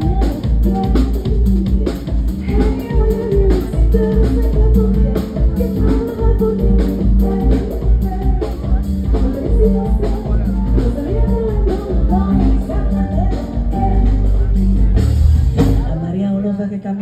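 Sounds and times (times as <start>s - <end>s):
drum kit and hand percussion: 0.0s - 16.2s
heavy bass line: 0.0s - 16.4s
live band playing: 0.0s - 17.0s.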